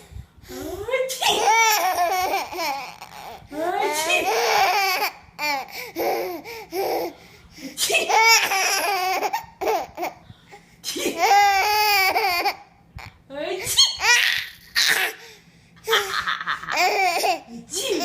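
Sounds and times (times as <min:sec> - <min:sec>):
baby laughing: 0:01.2 - 0:07.2, 0:07.8 - 0:10.2, 0:11.0 - 0:13.1, 0:13.8 - 0:18.0.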